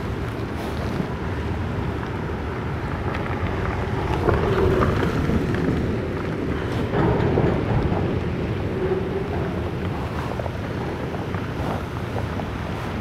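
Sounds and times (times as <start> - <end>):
car passing on wet road: 0.0 - 13.0
heavy rain: 0.0 - 13.0
wind gusting on microphone: 0.0 - 13.0.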